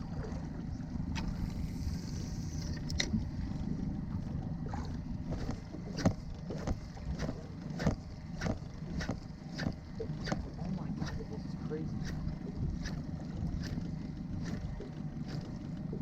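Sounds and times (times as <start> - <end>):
waves slapping boat hull: 0.0 - 16.0
wind rumble on microphone: 0.0 - 16.0.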